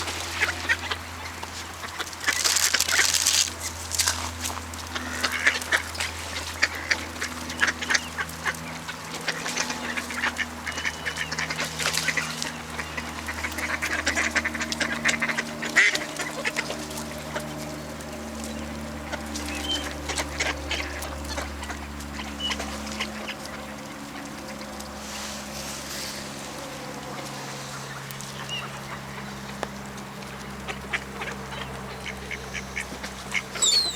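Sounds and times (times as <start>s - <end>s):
ducks quacking: 0.0s - 33.9s
low hum: 0.0s - 33.9s.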